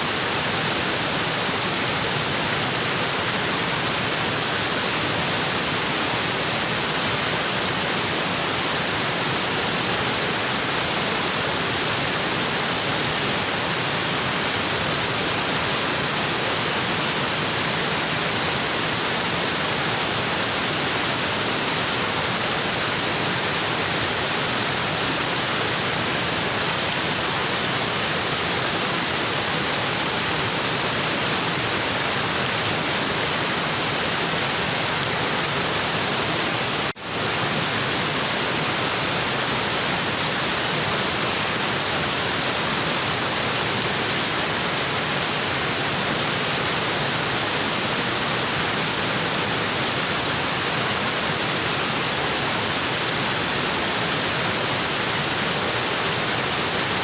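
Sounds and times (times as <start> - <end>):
waterfall rushing onto rocks: 0.0 - 57.0.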